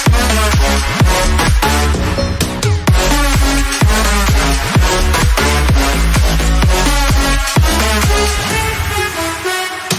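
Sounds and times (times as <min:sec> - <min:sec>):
heavy kick drum: 0:00.0 - 0:08.7
electronic music: 0:00.0 - 0:09.9.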